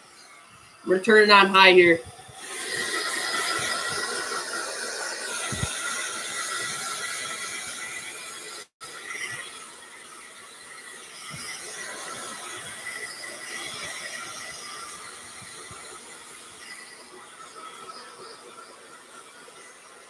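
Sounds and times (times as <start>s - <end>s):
hair dryer blowing: 1.2s - 20.0s.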